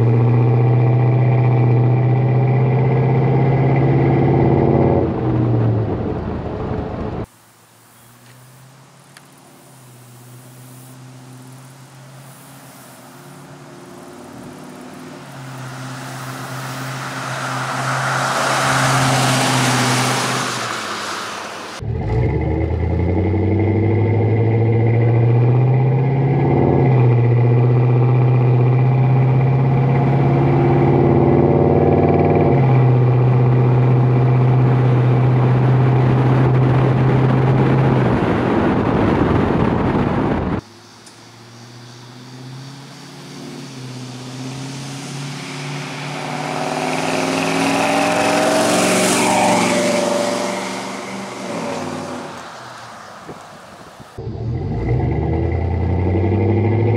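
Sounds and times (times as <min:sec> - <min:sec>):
truck engine: 0:00.0 - 0:56.9.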